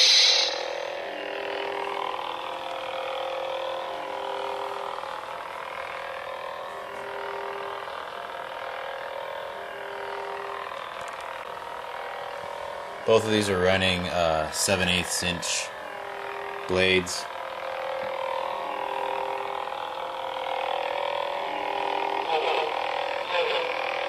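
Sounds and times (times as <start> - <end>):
electronic lightsaber hum: 0.0 - 24.0.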